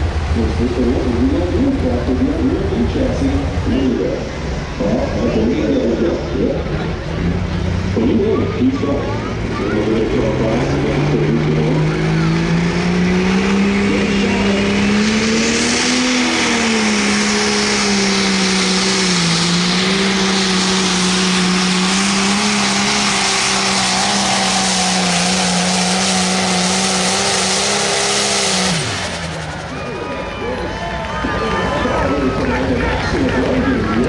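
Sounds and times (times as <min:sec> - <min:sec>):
diesel tractor engine at full throttle: 0:00.0 - 0:34.0.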